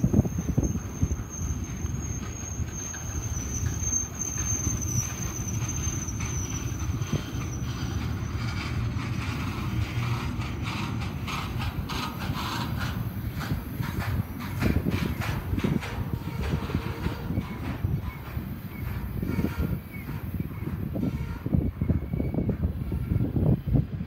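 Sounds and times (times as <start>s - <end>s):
high wheel squeal: 0.0s - 23.6s
train couplings squeaking and clanking: 0.0s - 24.0s
train wheels rumbling on rail: 0.0s - 24.0s.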